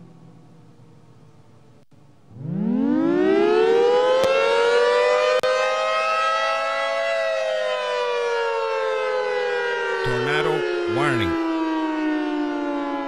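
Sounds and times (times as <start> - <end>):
warning siren wailing: 2.3 - 13.0.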